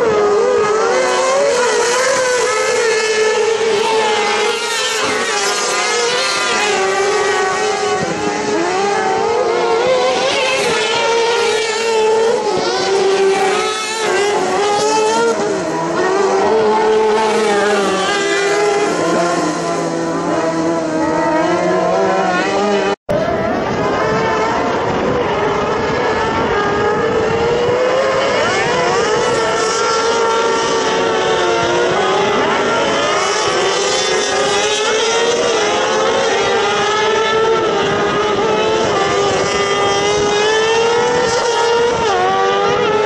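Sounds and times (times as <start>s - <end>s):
racing buggy engines revving: 0.0s - 43.0s.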